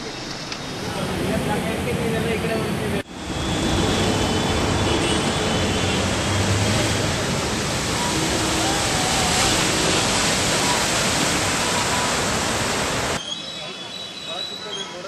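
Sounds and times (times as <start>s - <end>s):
heavy rain: 0.0s - 13.2s
running floodwater: 0.0s - 15.0s.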